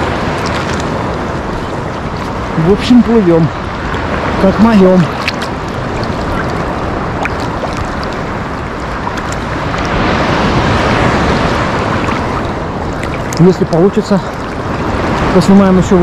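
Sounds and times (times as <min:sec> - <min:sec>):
small splashes: 0:00.0 - 0:15.6
water sloshing at camera: 0:00.0 - 0:16.0.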